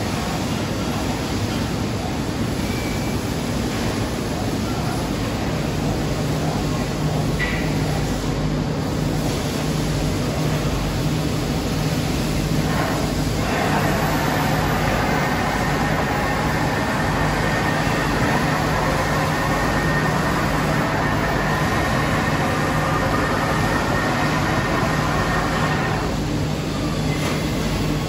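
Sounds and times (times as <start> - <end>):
lathe mechanical hum: 0.0 - 28.0.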